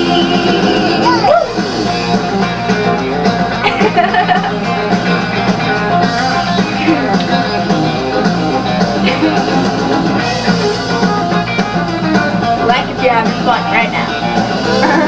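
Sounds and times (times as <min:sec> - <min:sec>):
country-rock guitar over a beat: 0:00.0 - 0:15.0.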